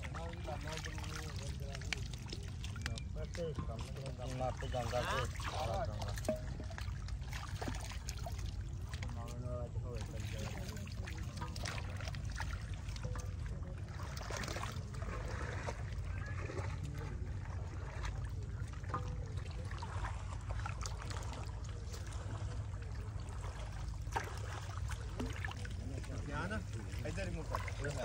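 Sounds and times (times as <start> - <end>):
water sloshing and trickling: 0.0 - 28.0.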